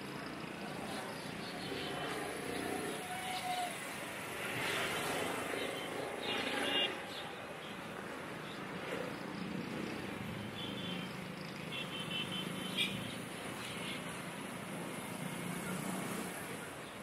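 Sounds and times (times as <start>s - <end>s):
traffic din: 0.0s - 17.0s.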